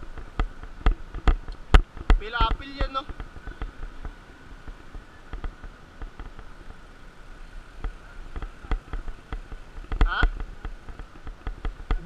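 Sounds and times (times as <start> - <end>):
bike knocks and rattles: 0.0 - 6.8, 7.8 - 12.0.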